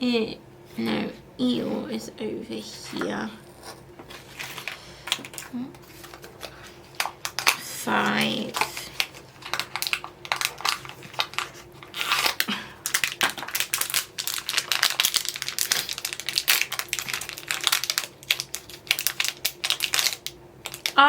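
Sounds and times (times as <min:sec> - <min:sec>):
packaging crinkling and tearing: 0:03.6 - 0:21.0.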